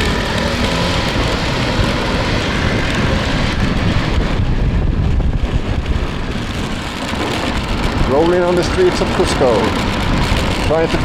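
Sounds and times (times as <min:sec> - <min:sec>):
motor scooter engine running: 0:00.0 - 0:11.0
wind rush on microphone: 0:00.0 - 0:11.0.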